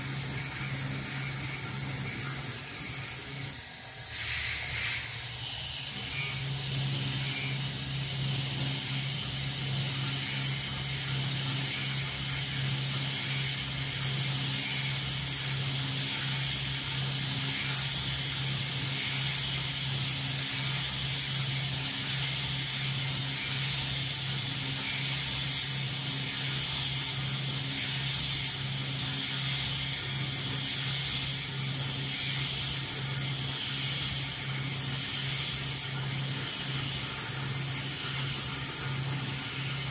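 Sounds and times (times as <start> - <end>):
coolant spray hissing: 0.0 - 39.9
spindle humming: 0.0 - 39.9.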